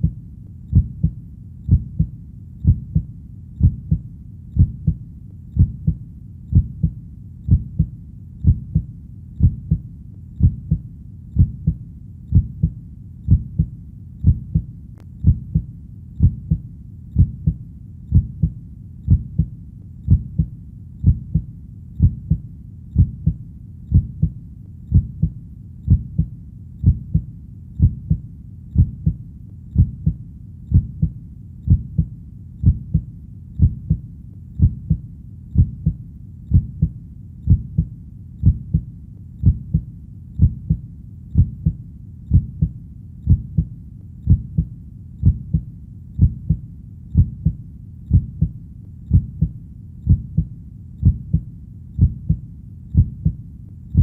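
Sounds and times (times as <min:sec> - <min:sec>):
heartbeat: 0:00.0 - 0:54.0.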